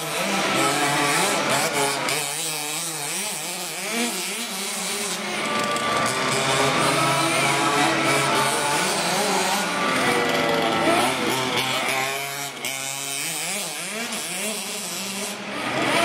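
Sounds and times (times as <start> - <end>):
rc car motors revving: 0.0 - 16.0.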